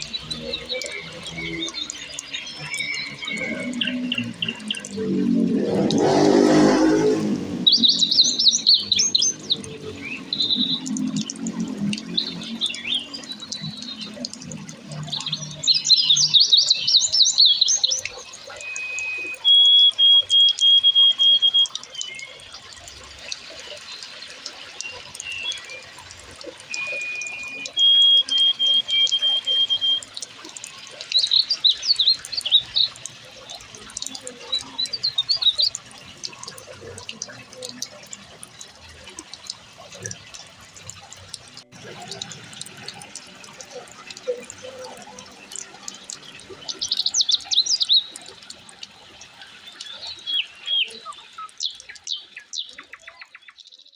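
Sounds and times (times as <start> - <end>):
birds chirping and trilling: 0.0 - 53.9
running water: 0.0 - 53.9.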